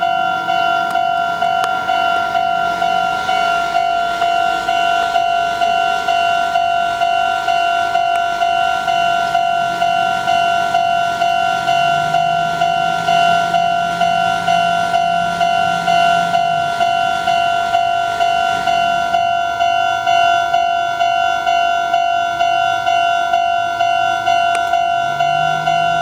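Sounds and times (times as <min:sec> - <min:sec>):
level crossing warning bell: 0:00.0 - 0:26.0
low train hum: 0:00.0 - 0:26.0.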